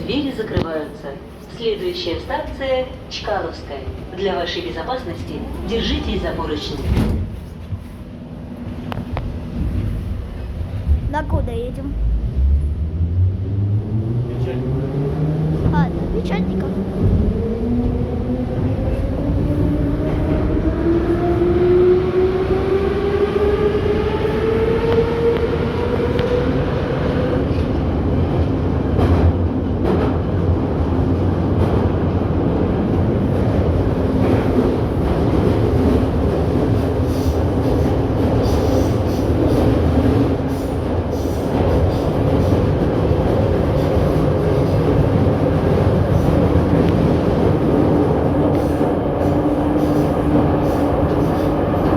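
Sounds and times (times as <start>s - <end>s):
wheels rumbling on rail: 5.1s - 51.9s.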